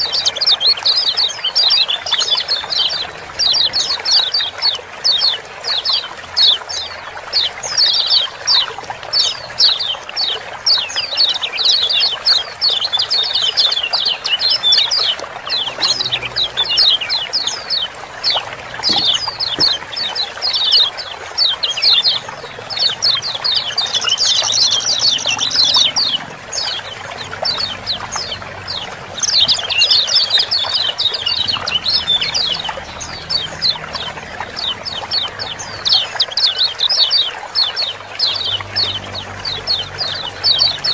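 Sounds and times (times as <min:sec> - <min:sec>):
birds chirping rapidly: 0:00.0 - 0:40.9
running water hiss: 0:00.0 - 0:40.9.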